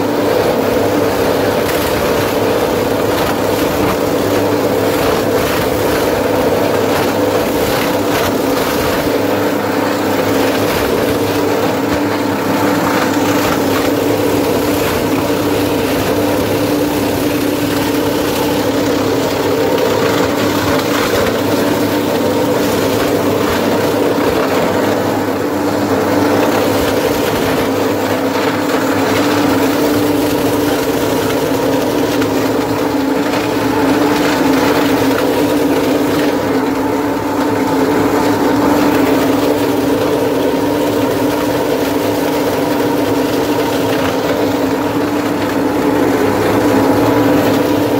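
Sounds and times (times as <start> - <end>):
plastic shredder machine humming: 0.0 - 47.9.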